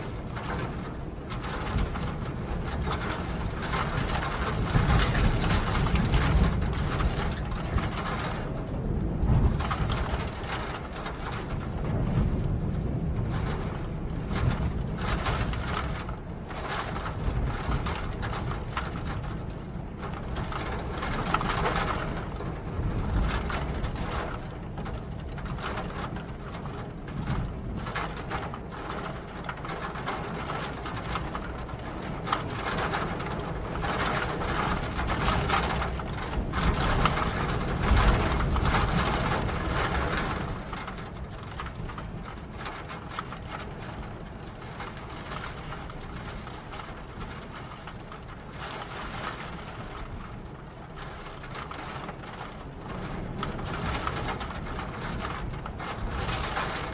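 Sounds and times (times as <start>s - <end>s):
steady rain: 0.0s - 56.9s.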